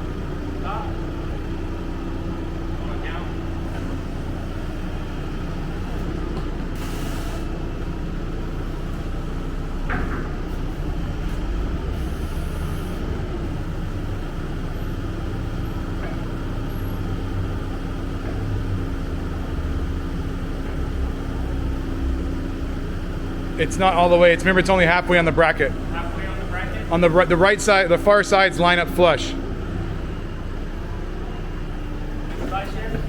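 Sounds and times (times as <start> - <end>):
large engine droning: 0.0 - 33.0.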